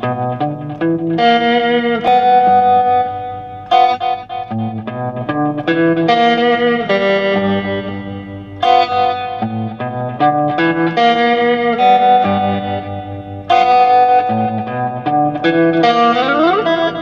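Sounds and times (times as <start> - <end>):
electric guitar playing slow chords: 0.0 - 17.0.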